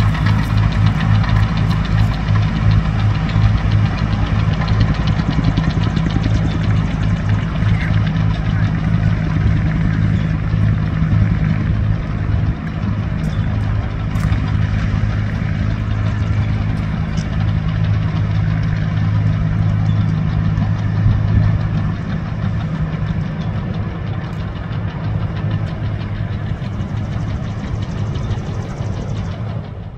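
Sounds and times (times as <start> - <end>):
bulldozer engine droning: 0.0 - 29.9
excavator engine running: 0.0 - 29.9.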